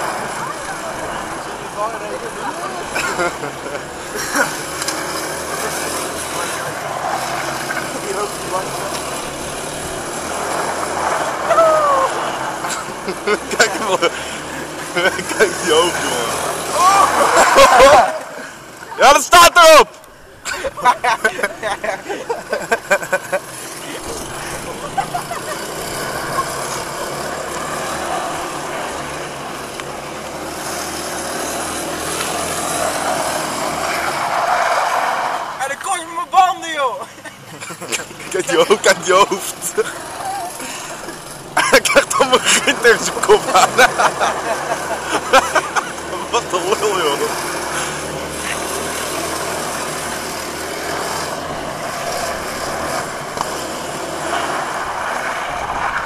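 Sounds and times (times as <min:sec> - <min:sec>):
go-kart engine droning: 0:00.0 - 0:56.0.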